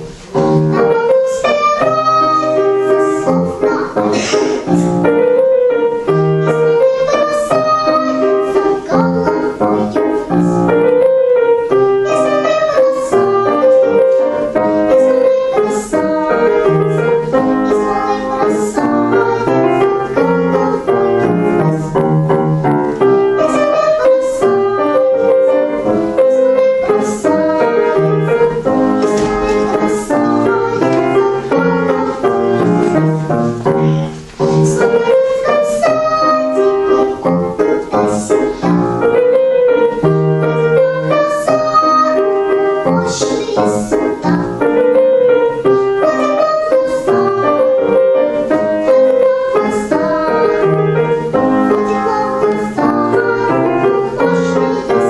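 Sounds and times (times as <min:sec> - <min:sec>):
girl singing with vibrato: 0:00.0 - 0:55.0
piano chords: 0:00.0 - 0:55.0.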